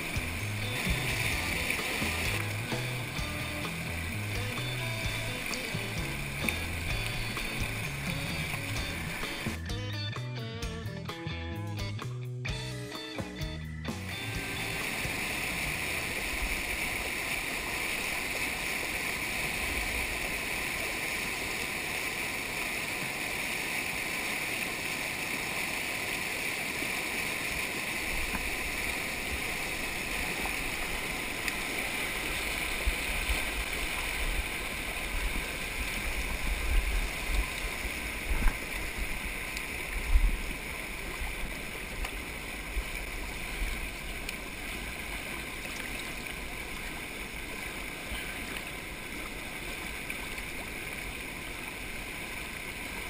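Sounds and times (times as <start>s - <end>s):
creek water rushing: 0.0s - 11.2s, 12.7s - 53.0s.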